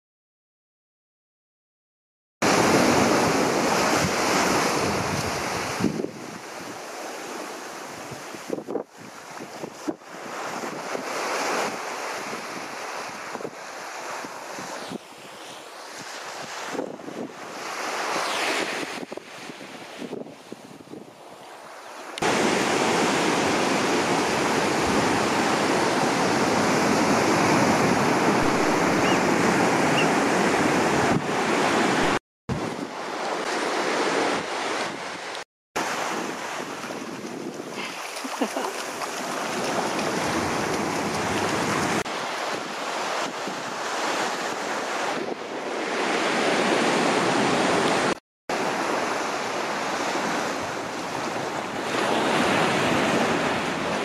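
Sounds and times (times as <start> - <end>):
surf washing onto shore: 2.4 - 20.2, 22.1 - 54.0.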